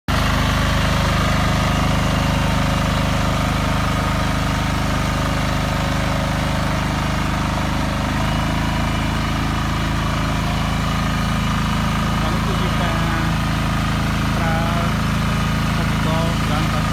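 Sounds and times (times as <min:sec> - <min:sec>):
walk-behind tractor engine running: 0:00.1 - 0:16.9.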